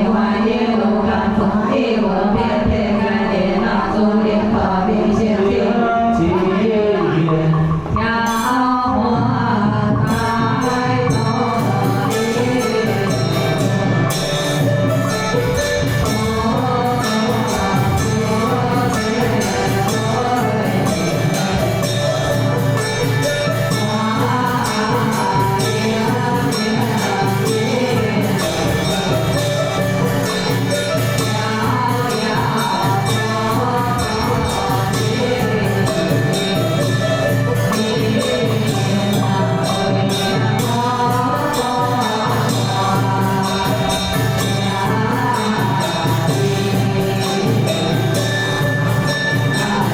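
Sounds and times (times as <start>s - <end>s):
chanted singing: 0.0s - 49.9s
musical accompaniment: 3.6s - 49.9s.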